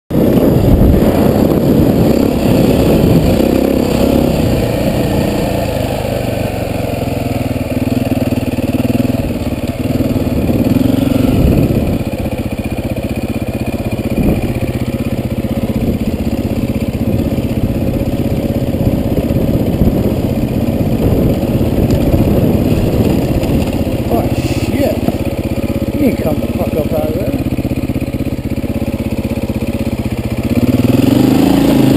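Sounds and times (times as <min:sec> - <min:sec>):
dirt bike engine revving: 0:00.1 - 0:31.9.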